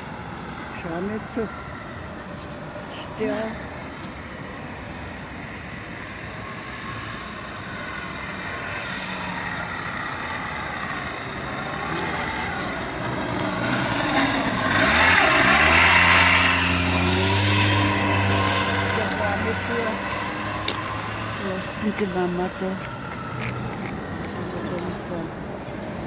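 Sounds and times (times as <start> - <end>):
motor vehicle engine: 0.0 - 26.0.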